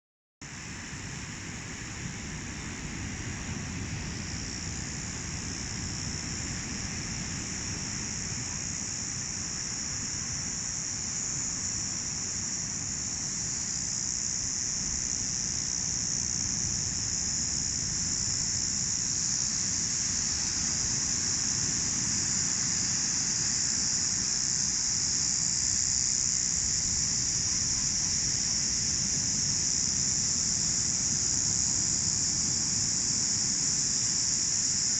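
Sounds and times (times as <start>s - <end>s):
high-pitched insect chorus: 0.6s - 34.9s.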